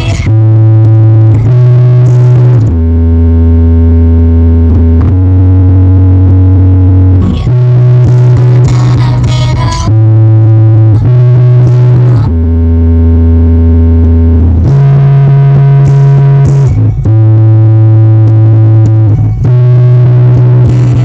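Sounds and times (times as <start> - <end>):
loud bass-heavy music: 0.0 - 21.0.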